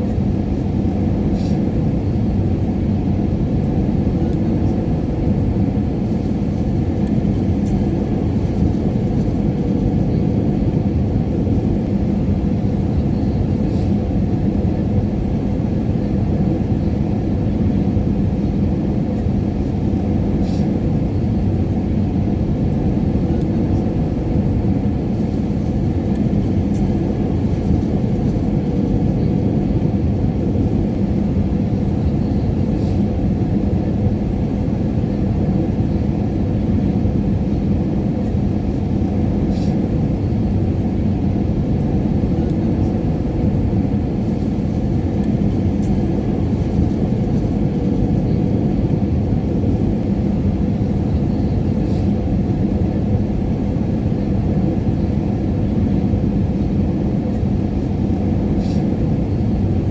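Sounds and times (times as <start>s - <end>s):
engine and airflow rumble: 0.0s - 59.9s.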